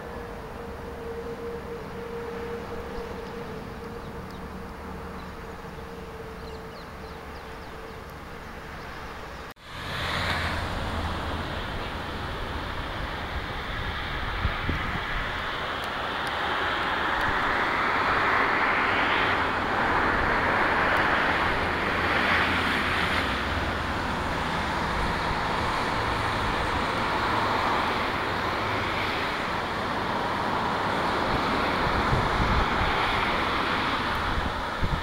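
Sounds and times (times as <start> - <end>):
busy road traffic: 0.0 - 35.0.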